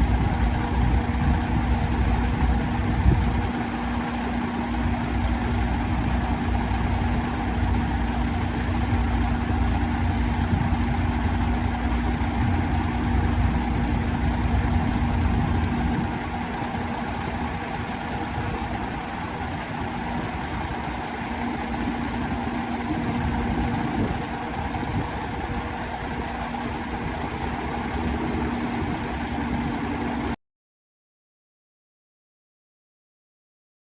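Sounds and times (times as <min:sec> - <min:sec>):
diesel truck engine idling: 0:00.0 - 0:30.4.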